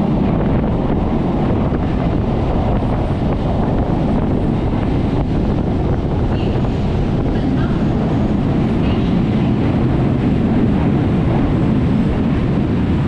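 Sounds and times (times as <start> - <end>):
train rumbling in motion: 0.0 - 13.0
wind buffeting microphone: 0.0 - 13.0.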